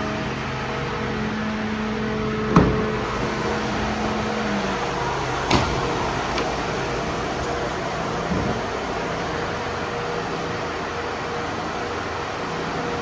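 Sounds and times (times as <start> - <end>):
diesel engine idling: 0.0 - 13.0
hum: 0.1 - 11.8.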